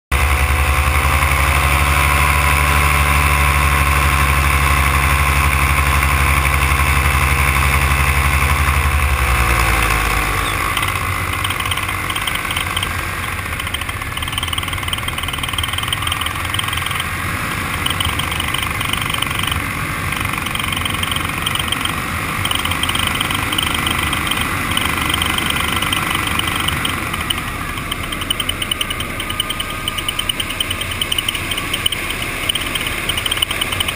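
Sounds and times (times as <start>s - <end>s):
paramotor engine running: 0.1s - 33.9s.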